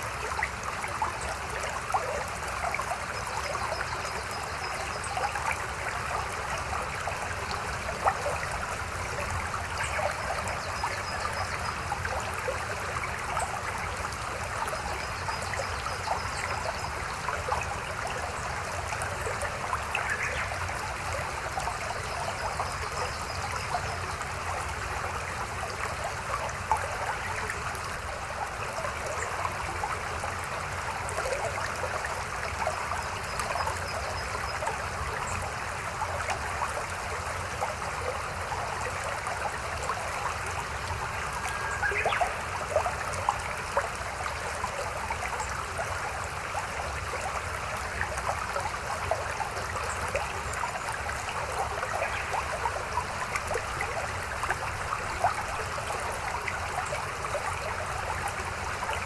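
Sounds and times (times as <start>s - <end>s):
shallow stream babbling: 0.0s - 59.0s.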